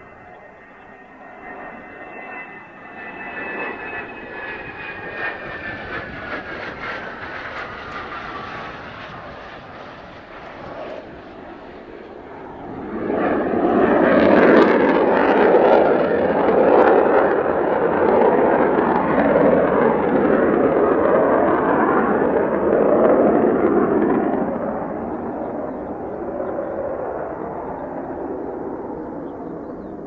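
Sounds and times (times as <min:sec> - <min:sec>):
jet engine with afterburner: 0:00.0 - 0:30.0.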